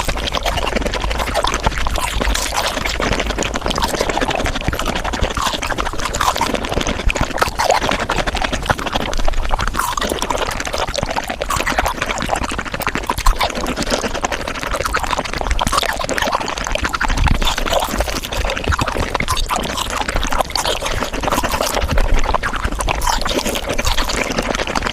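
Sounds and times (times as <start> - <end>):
sped-up chewing and crunching: 0.0 - 24.9.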